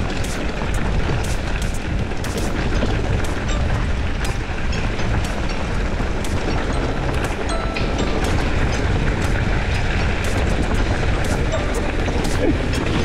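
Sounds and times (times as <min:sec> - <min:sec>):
bike clicking and rattling: 0:00.0 - 0:13.0
wind buffeting microphone: 0:00.0 - 0:13.0.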